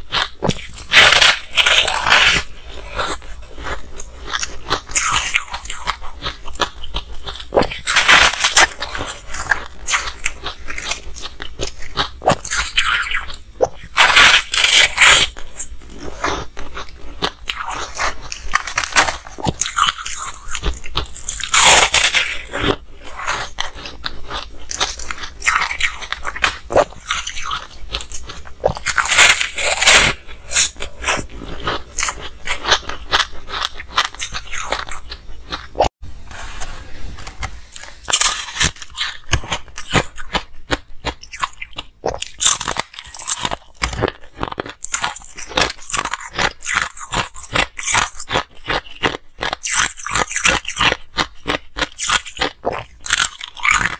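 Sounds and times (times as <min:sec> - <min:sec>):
crunching ice chewing: 0:00.0 - 0:35.9, 0:37.7 - 0:53.9.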